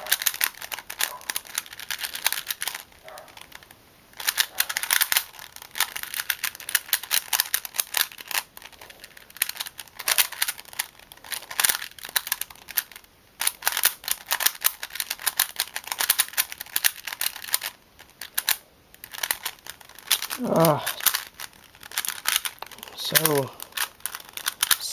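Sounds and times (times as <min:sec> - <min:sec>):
plastic puzzle cube clicking: 0:00.0 - 0:24.9.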